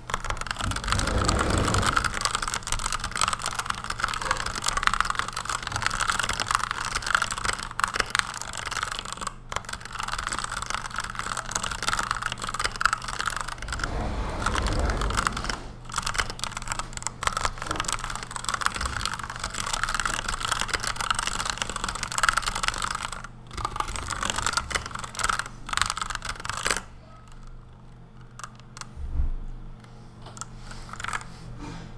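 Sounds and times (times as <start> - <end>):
mechanical keyboard typing: 0.0 - 27.6, 28.2 - 28.9, 30.4 - 31.3.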